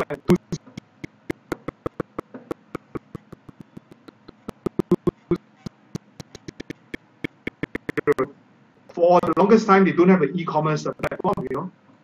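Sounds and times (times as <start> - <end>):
video call audio breaking up: 0.0 - 5.4, 6.0 - 8.3, 8.9 - 11.7.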